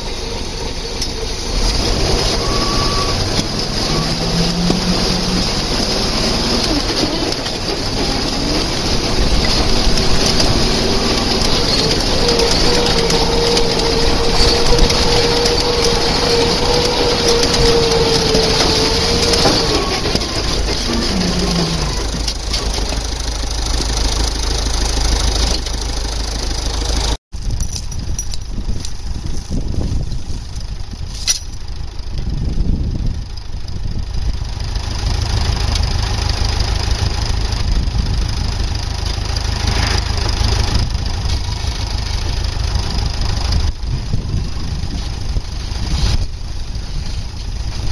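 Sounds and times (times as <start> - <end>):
vehicle engine whining: 0.0 - 47.9.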